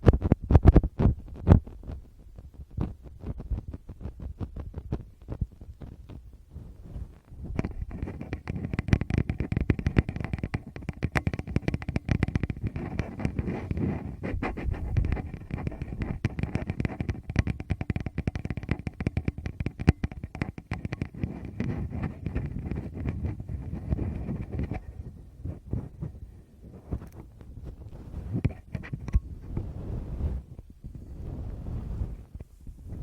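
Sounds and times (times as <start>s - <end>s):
fingers rubbing on microphone: 0.0s - 33.0s.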